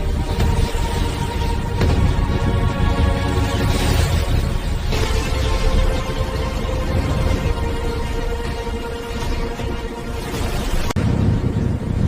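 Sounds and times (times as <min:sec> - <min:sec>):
music with sustained tones: 0:00.0 - 0:11.0.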